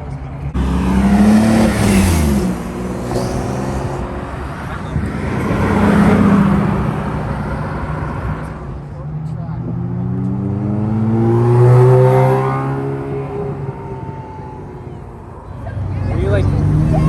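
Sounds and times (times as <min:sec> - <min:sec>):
cars driving past: 0:00.5 - 0:17.0.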